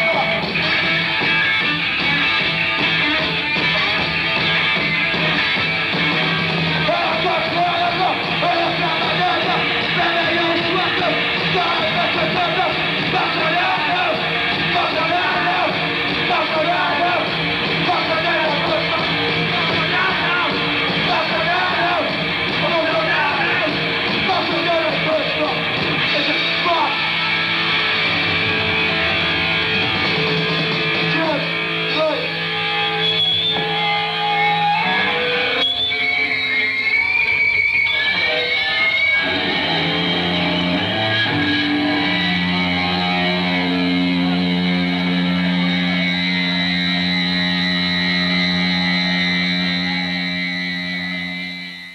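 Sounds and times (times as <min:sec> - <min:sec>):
punk rock band playing live: 0:00.0 - 0:51.6
distorted electric guitar: 0:00.0 - 0:51.9.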